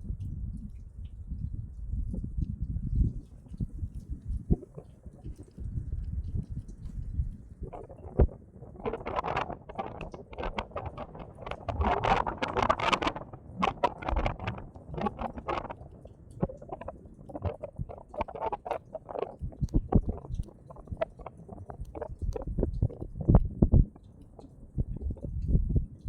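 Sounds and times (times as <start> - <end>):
wind gusting with low rumble: 0.0 - 26.0
dense crackling and pattering: 3.0 - 26.0.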